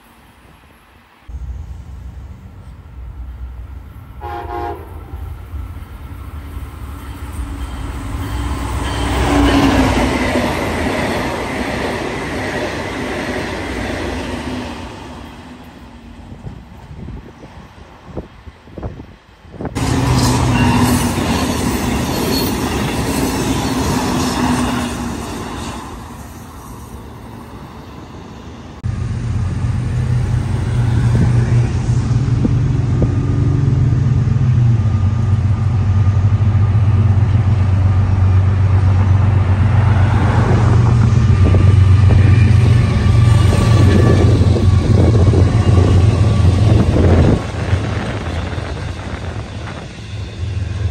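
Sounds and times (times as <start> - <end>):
passing train noise: 0.0 - 50.9
road traffic passing: 0.3 - 50.9
locomotive engines droning: 0.8 - 17.0, 17.8 - 50.9.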